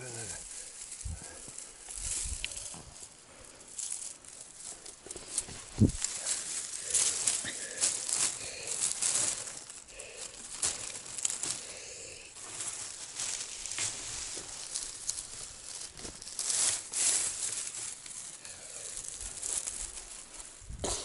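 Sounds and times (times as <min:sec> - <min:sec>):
willow branches rustling: 0:00.0 - 0:20.9
branches snapping: 0:00.4 - 0:11.8, 0:12.4 - 0:21.0.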